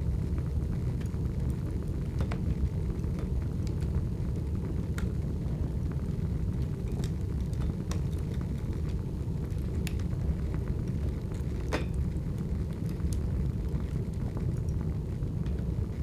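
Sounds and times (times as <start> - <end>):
fire rumbling and crackling: 0.0 - 16.0.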